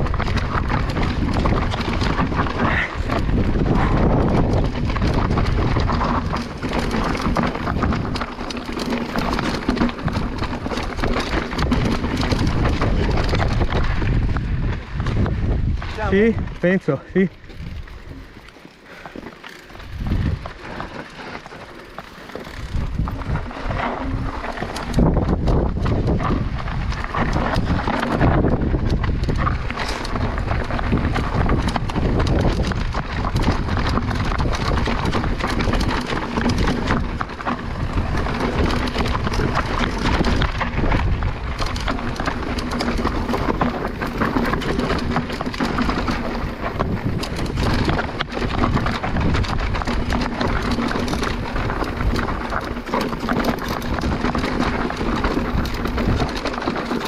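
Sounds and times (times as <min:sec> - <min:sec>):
wind on microphone: 0:00.0 - 0:08.2, 0:10.0 - 0:18.4, 0:19.7 - 0:20.6, 0:22.4 - 0:57.0
bike rattling over bumps: 0:00.0 - 0:57.0
tyres rolling over gravel: 0:00.0 - 0:57.0.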